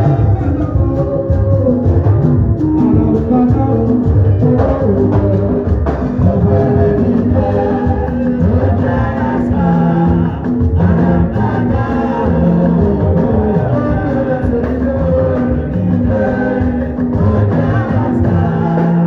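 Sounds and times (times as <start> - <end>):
live band with singing: 0.0 - 19.0.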